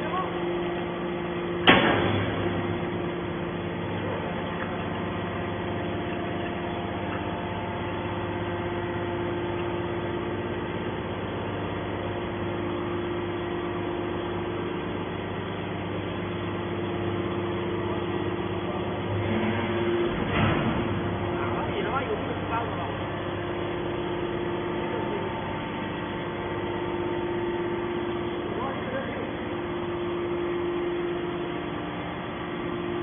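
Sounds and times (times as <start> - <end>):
baler machine hum: 0.0 - 33.0.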